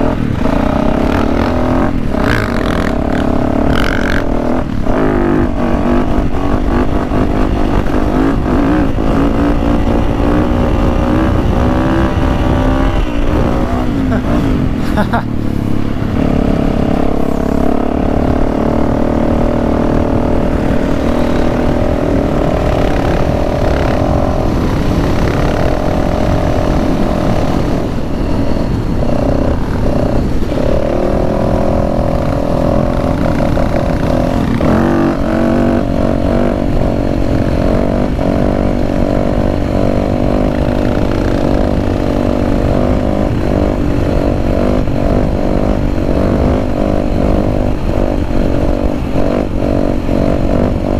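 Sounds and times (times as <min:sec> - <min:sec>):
dirt bike engine running: 0:00.0 - 0:50.9
wind rush on microphone: 0:00.0 - 0:50.9.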